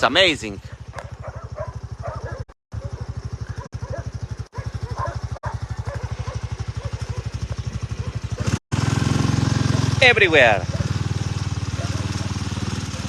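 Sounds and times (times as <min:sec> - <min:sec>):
small engine running at low revs: 0:00.2 - 0:13.0.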